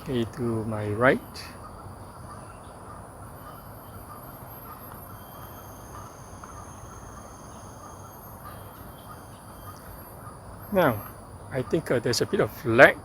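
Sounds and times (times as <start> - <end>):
faint bird calls: 0.0 - 13.0
faint high-pitched tones: 0.0 - 13.0
steady hiss: 0.0 - 13.0.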